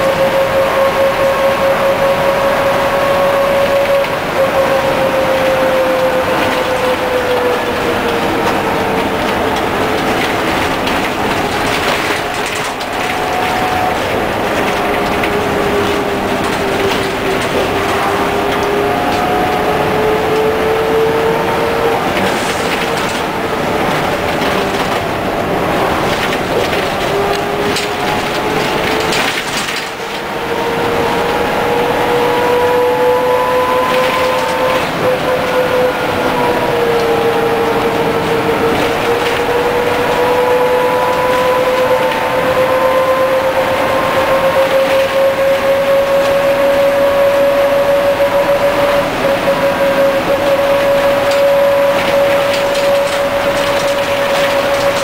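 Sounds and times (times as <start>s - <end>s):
bus engine and road noise: 0.0s - 55.0s.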